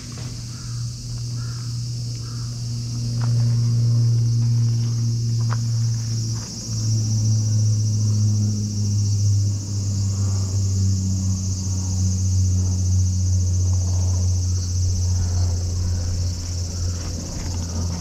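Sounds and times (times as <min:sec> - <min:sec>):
insects buzzing: 0:00.0 - 0:18.0
low engine hum: 0:00.0 - 0:18.0.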